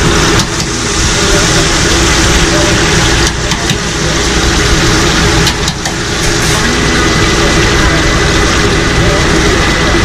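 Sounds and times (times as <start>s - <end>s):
deep fryer hissing: 0.0s - 10.0s
extractor fan drone: 0.0s - 10.0s.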